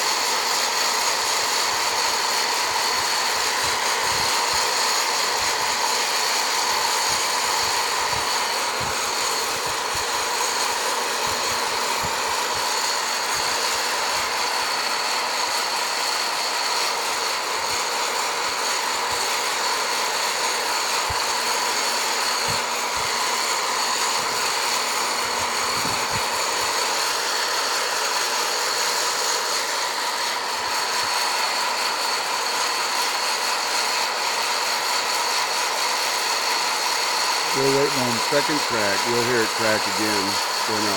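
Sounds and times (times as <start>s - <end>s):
coffee roaster fan whine: 0.0s - 40.9s.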